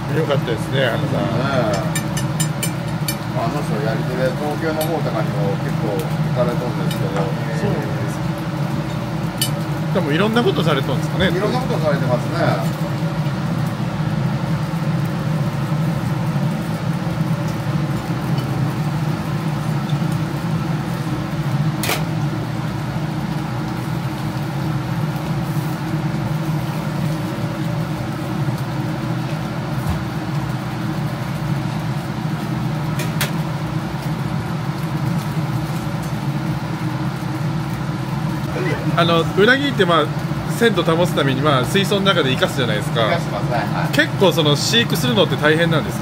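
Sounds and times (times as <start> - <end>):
ventilation fan drone: 0.0 - 46.0.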